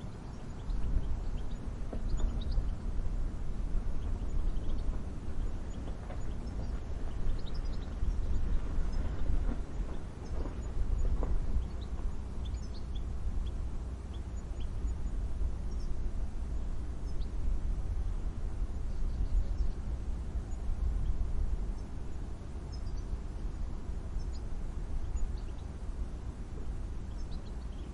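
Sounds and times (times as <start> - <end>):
gusting wind rumble: 0.0 - 27.9
small birds chirping: 0.0 - 27.9.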